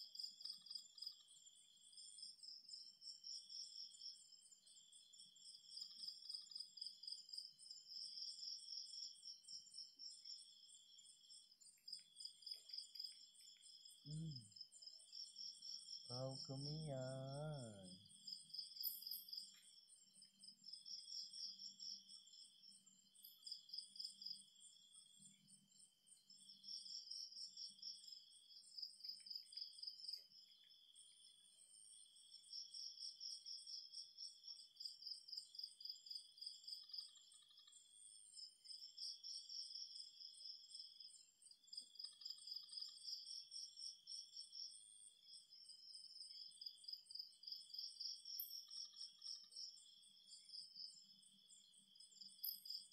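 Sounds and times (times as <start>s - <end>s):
insects trilling: 2.0s - 52.9s.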